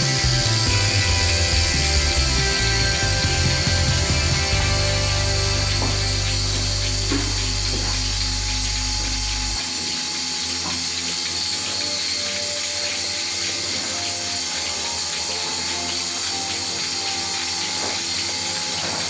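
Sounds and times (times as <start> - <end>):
milking machine hissing and humming: 0.0 - 19.0.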